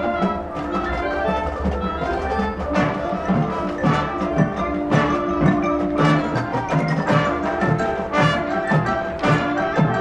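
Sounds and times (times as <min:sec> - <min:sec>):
marching band playing: 0:00.0 - 0:10.0.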